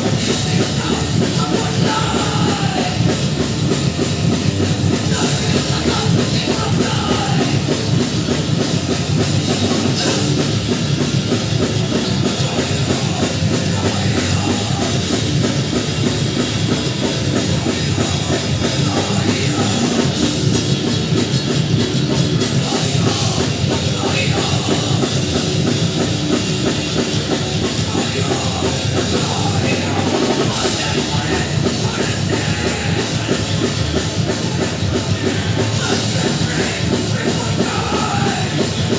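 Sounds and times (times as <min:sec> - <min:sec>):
pounding drum kit: 0:00.0 - 0:38.9
rock band playing live: 0:00.0 - 0:38.9.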